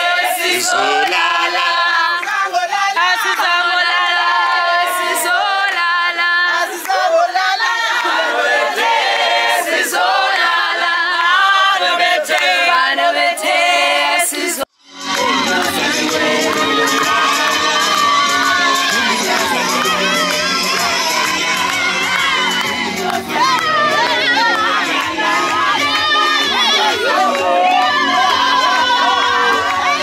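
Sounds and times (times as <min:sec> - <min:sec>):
group singing in harmony: 0:00.0 - 0:30.0.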